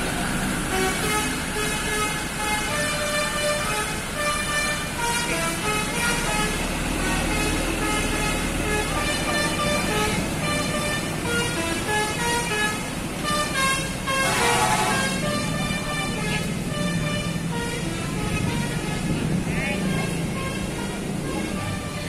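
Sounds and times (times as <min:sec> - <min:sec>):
bus engine rumble: 0:00.0 - 0:22.0
multi-tone air horn playing a tune: 0:00.6 - 0:22.0.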